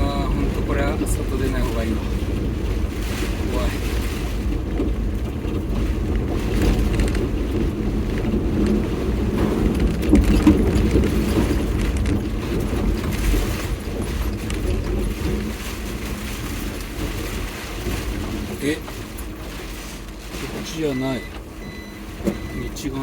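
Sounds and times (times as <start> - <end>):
low rumble of engine and tyres: 0.0 - 23.0.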